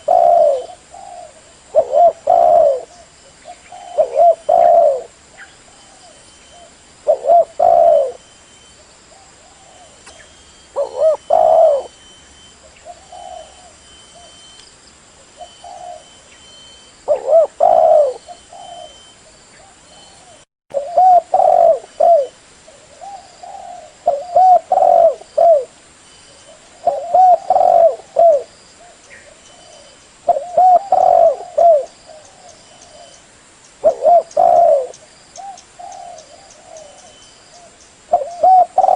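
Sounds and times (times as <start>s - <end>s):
dove cooing: 0.0s - 8.2s, 9.1s - 12.0s, 12.6s - 14.4s, 15.2s - 16.3s, 17.0s - 25.8s, 26.5s - 33.2s, 33.8s - 38.9s.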